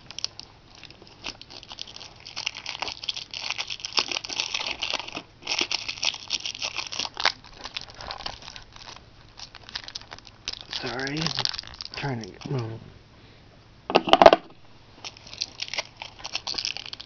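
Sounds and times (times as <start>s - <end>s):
plastic wrapping crinkling: 0.0s - 12.6s, 15.0s - 17.0s.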